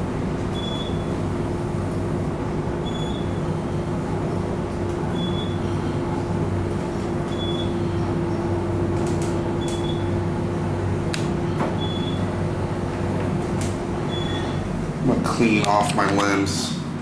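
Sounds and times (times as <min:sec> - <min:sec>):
elevator humming: 0:00.0 - 0:17.0.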